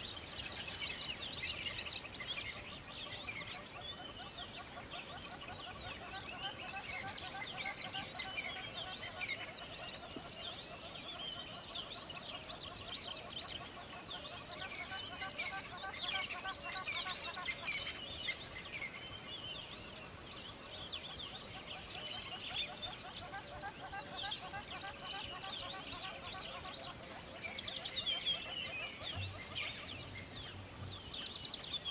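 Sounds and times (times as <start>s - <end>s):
birds chirping chorus: 0.0s - 31.9s.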